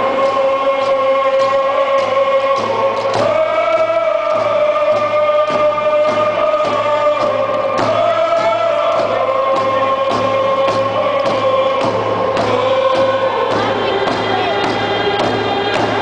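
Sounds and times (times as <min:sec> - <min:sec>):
group singing in unison: 0:00.0 - 0:16.0
hand drum beat: 0:00.0 - 0:16.0.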